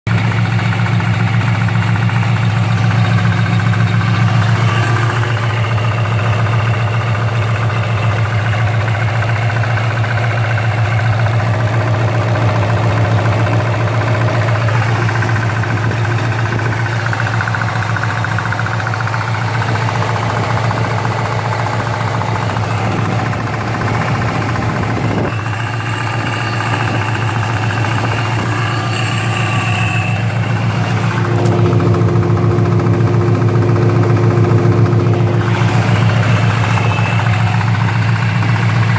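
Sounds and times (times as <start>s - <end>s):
car engine idling: 0.0s - 38.9s
engine knocking: 0.0s - 38.9s.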